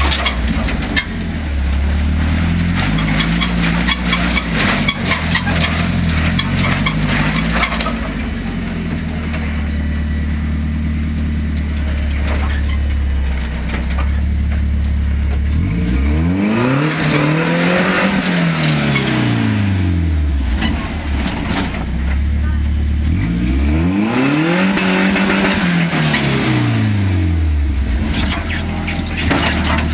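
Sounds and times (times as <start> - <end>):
truck engine idling and revving: 0.0 - 29.9.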